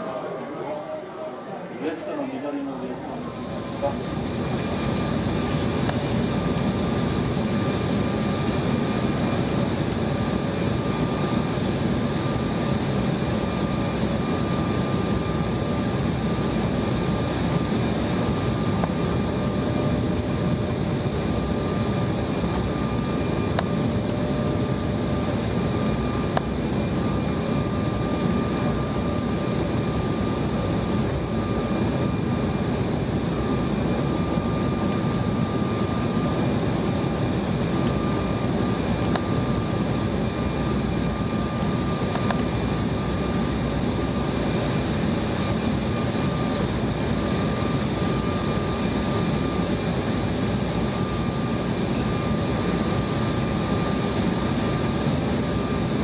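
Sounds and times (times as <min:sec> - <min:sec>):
high engine whine tones: 0:00.0 - 0:56.0
jet airliner drone: 0:00.0 - 0:56.0.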